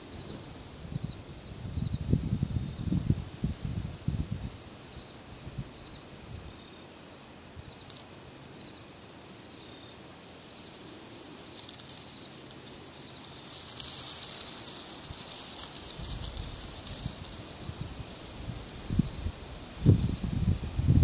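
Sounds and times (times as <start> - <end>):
crackly high hiss: 0.0 - 21.0
leaves and dry grass rustling: 0.0 - 21.0.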